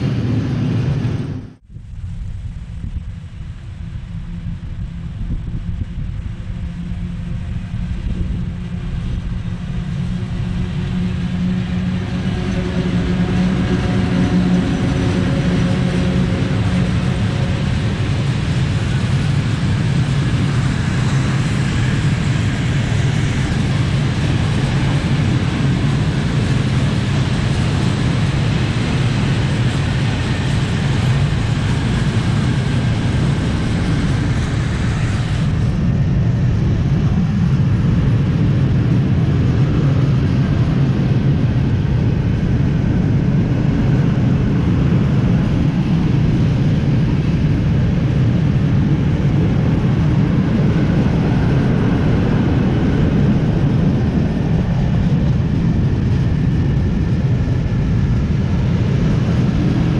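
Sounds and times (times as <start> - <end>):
electric locomotive hum: 0.0 - 59.9.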